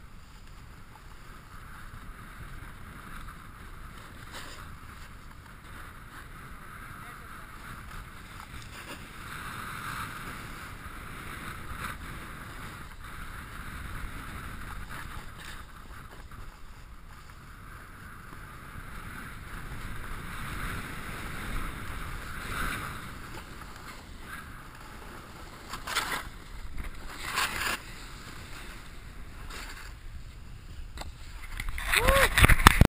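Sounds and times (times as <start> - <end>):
snowboard scraping on snow: 0.0 - 32.9
wind on microphone: 0.0 - 32.9.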